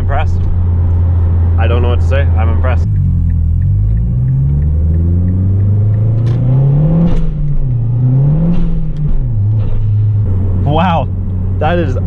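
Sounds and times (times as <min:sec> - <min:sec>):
car engine accelerating through gears: 0:00.0 - 0:12.0.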